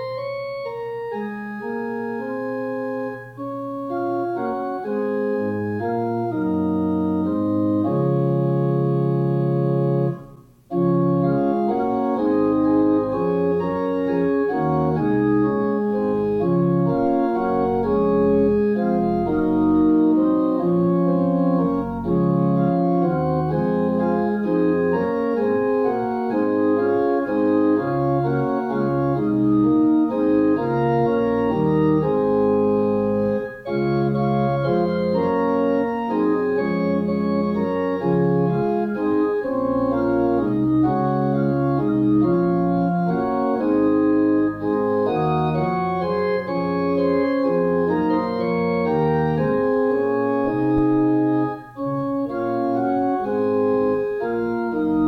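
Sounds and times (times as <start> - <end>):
organ playing a hymn: 0.0 - 55.0.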